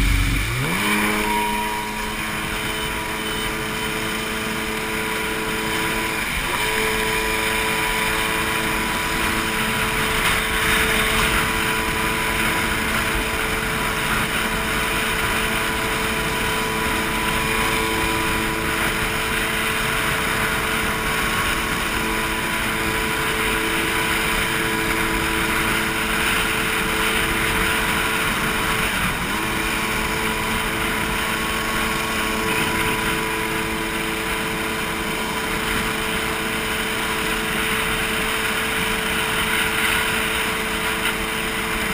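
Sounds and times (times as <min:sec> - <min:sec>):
jet ski engine running: 0:00.0 - 0:41.9
wind: 0:00.0 - 0:41.9.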